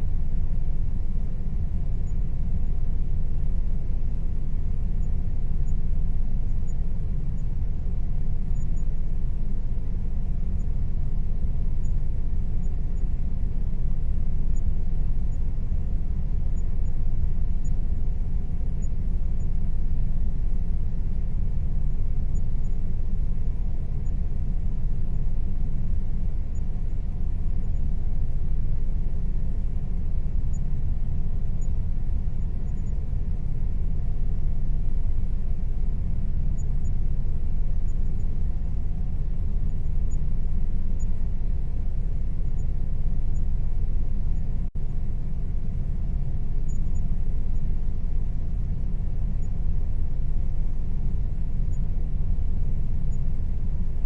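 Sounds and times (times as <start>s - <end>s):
air conditioner rumble: 0.0s - 54.0s
faint steady hum: 0.0s - 54.0s.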